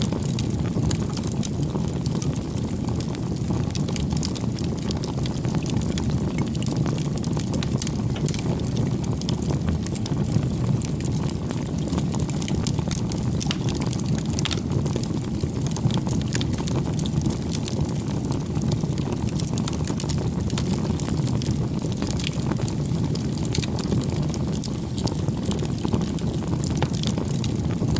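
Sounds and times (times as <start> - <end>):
burning wood crackling: 0.0 - 27.9
rush of bonfire flames: 0.0 - 27.9.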